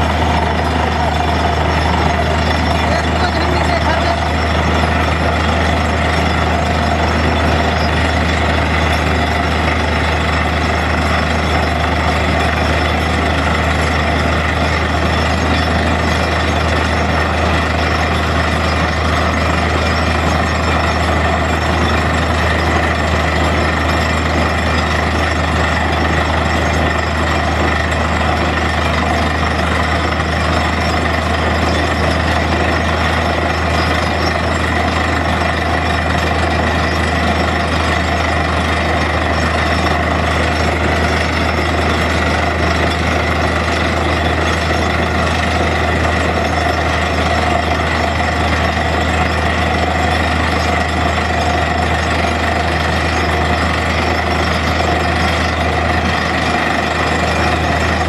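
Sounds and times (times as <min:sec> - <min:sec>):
drilling rig running: 0:00.0 - 0:58.0.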